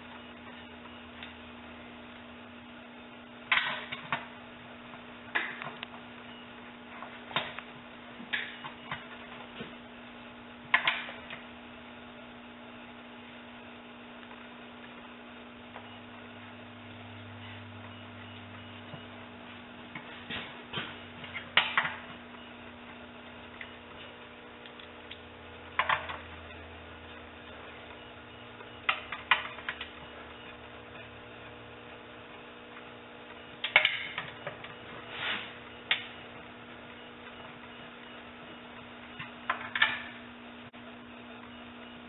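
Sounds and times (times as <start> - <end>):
steady electrical hum: 0.0 - 42.0.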